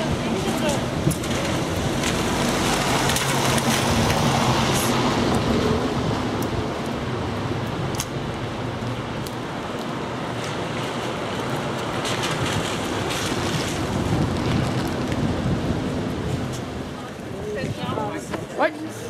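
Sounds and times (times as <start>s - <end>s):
constant rushing street noise: 0.0s - 19.0s.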